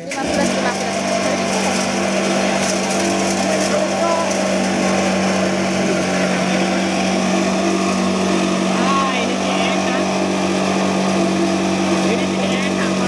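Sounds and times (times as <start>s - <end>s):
chopper grinder machine humming: 0.0s - 13.0s.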